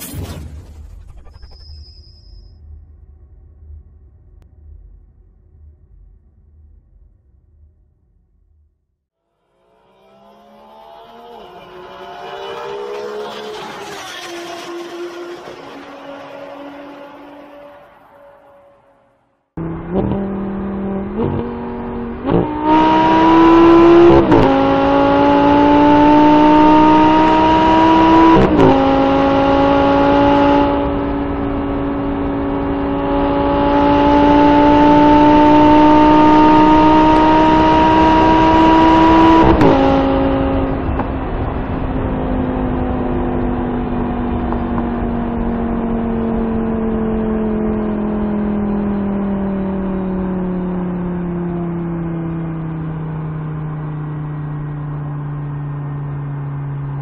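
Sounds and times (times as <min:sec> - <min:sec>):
car engine accelerating: 0:02.6 - 0:57.0.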